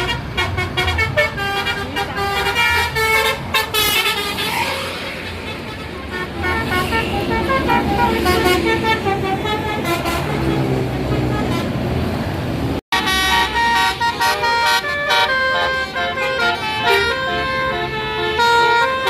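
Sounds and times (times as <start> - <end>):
musical air horn melody: 0.0 - 11.7, 12.9 - 19.0
coach engine rumble: 0.0 - 19.0.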